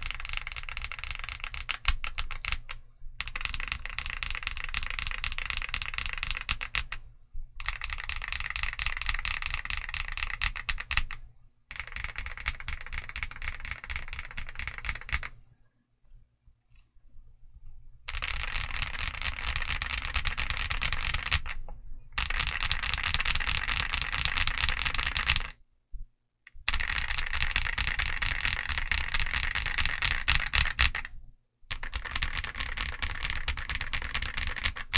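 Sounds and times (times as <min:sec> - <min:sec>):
fast typing on mechanical keyboard: 0:00.0 - 0:07.0, 0:07.6 - 0:15.4, 0:18.1 - 0:21.6, 0:22.2 - 0:25.6, 0:26.6 - 0:31.1, 0:31.7 - 0:34.9.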